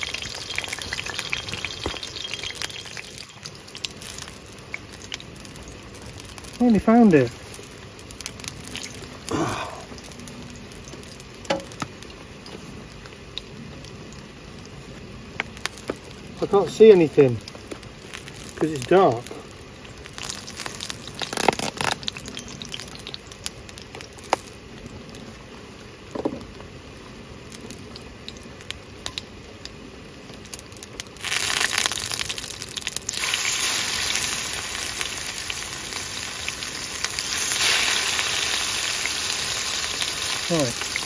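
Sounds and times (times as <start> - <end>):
fish sizzling in a hot pan: 0.0 - 13.5, 15.5 - 24.7, 30.3 - 41.0.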